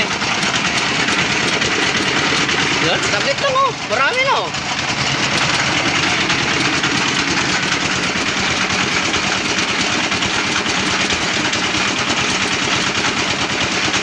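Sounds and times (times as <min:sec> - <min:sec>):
rock crusher mechanical drone: 0:00.0 - 0:14.0.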